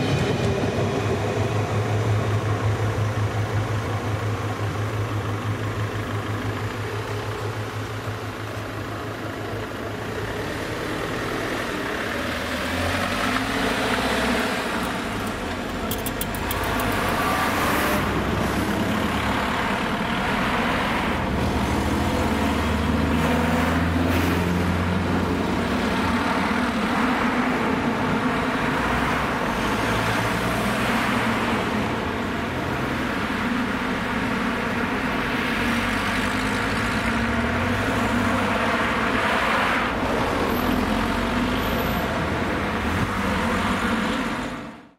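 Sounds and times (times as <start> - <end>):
cars driving past: 0.0 - 44.9.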